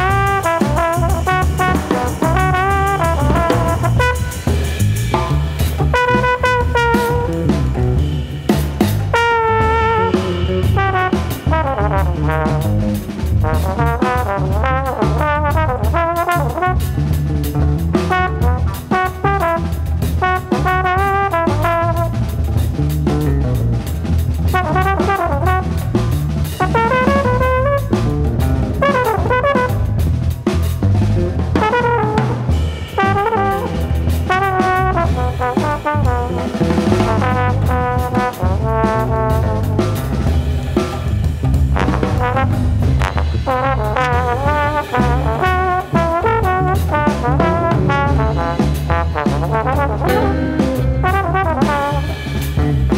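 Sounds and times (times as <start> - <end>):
conga drums: 0.0 - 52.9
drum kit: 0.0 - 52.9
trombone melody: 0.0 - 52.9.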